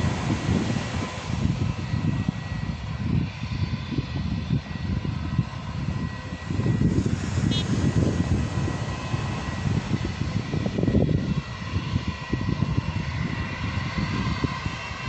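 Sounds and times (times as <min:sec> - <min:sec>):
jet engines whining: 0:00.0 - 0:15.0
low rumble: 0:00.0 - 0:15.0.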